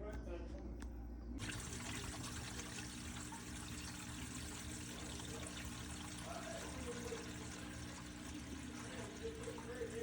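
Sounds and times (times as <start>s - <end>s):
water trickling down drain pipe: 1.4s - 10.0s.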